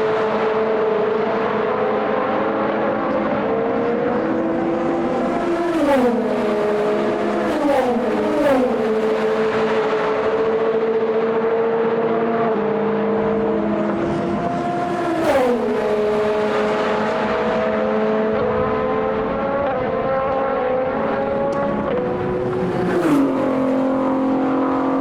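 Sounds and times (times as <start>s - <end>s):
race car passing by: 0.0s - 11.2s, 12.1s - 25.0s
race car engines running: 0.0s - 25.0s.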